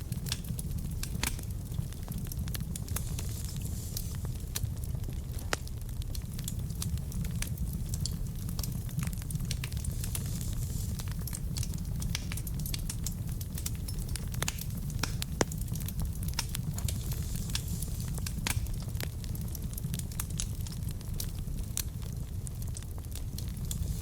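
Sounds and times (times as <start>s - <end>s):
fire flame rumble: 0.0s - 24.0s
logs crackling and popping: 0.0s - 24.0s.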